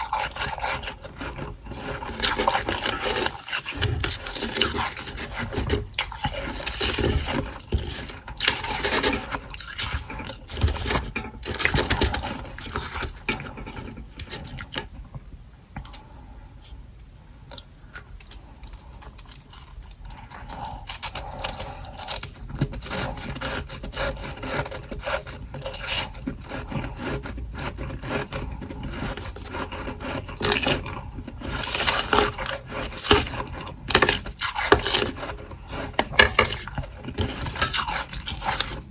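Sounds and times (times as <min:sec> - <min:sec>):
frost crunching and scraping: 0:00.0 - 0:15.1, 0:17.9 - 0:38.9.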